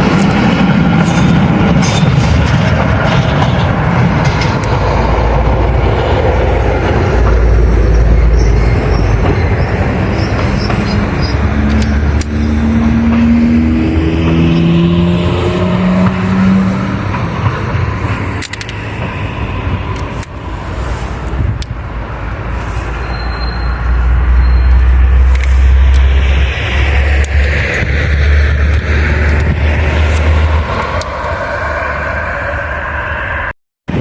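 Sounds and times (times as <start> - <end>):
train rail noise and rumble: 0.0 - 34.0
rising steady tones: 3.7 - 34.0.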